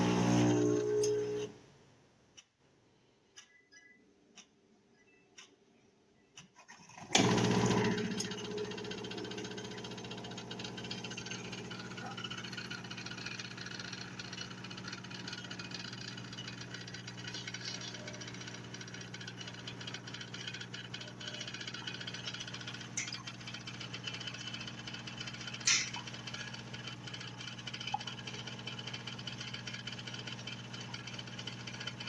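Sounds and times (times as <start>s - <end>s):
coffee maker motor hum and rattle: 0.0s - 1.6s, 7.0s - 32.0s.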